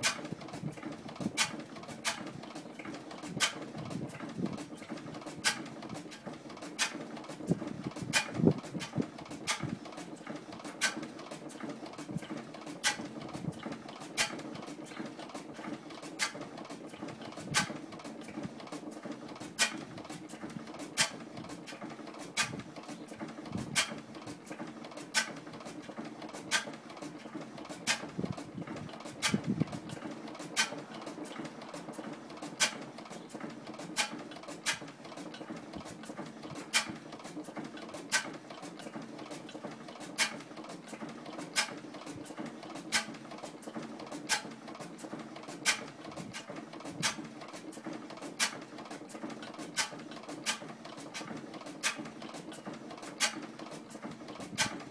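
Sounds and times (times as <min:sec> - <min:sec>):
gas engine clicking: 0:00.0 - 0:54.9.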